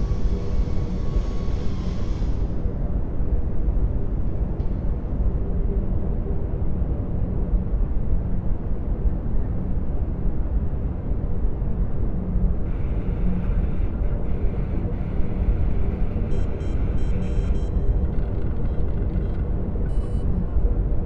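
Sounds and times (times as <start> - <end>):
deep rumble of starship engines: 0.0 - 21.0.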